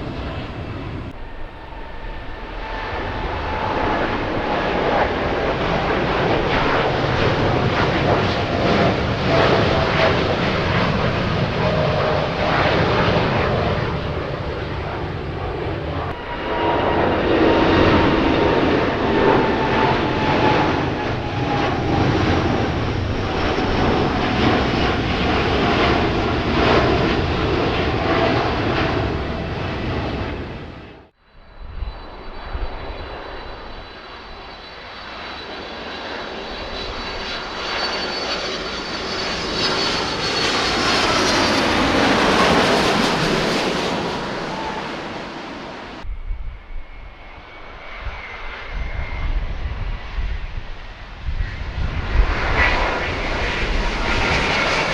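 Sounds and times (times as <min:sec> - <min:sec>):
jet engine roar with whine: 0:00.0 - 0:54.9.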